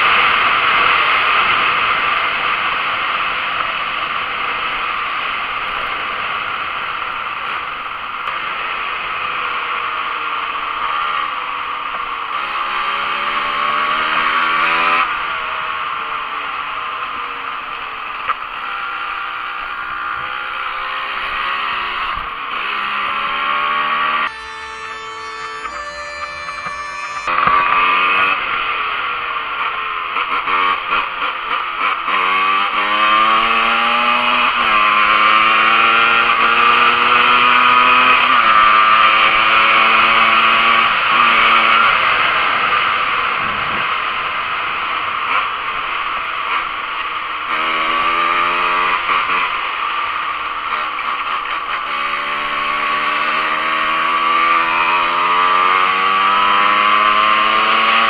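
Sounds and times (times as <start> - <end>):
two-stroke motorcycle engine accelerating: 0.0 - 58.0.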